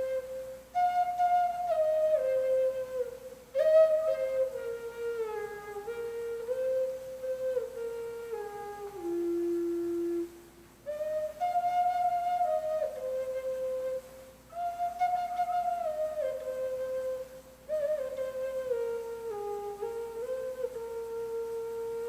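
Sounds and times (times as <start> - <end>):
flute playing slow melody: 0.0 - 22.0.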